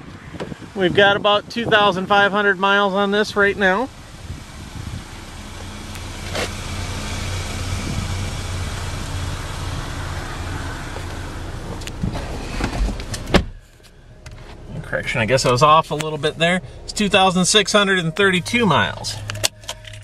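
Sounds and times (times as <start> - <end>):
car engine idling: 0.7 - 20.0.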